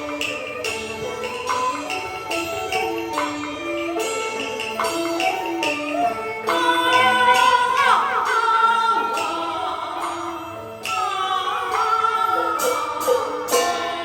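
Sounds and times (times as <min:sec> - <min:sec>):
sharp percussion strikes: 0:00.0 - 0:14.0
traditional instrumental accompaniment: 0:00.0 - 0:14.0.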